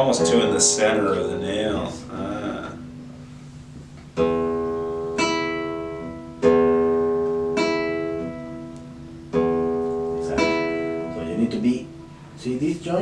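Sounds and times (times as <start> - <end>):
classical guitar plucked notes: 0.0 - 13.0.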